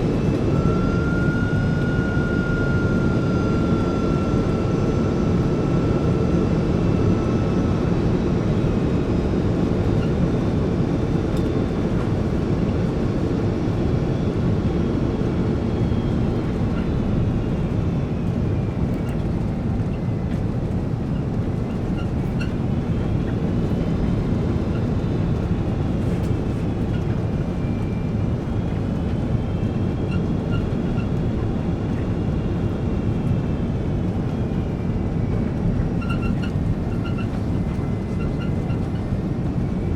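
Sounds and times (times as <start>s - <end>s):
airliner cabin rumble: 0.0s - 39.9s
jet engine whine: 0.0s - 39.9s.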